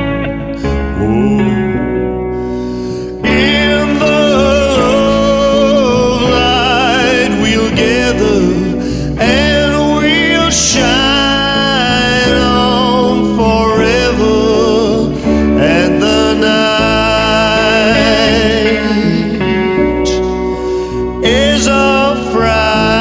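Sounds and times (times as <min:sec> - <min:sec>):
wavering lead melody with vibrato: 0:00.0 - 0:23.0.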